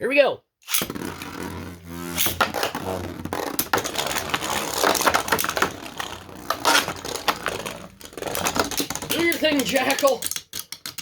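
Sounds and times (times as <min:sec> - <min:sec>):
spinning tops whirring: 0:00.7 - 0:10.2
spinning tops clattering: 0:02.1 - 0:11.0.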